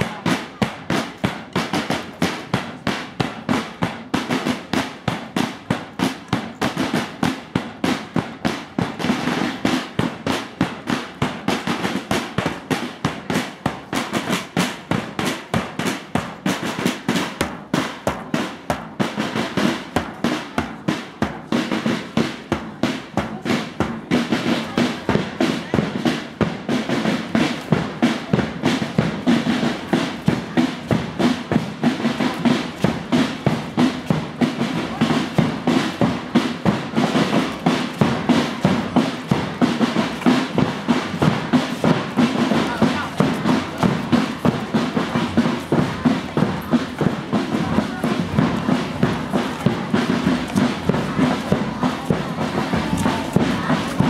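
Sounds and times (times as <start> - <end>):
snare drums playing: 0.0 - 54.0.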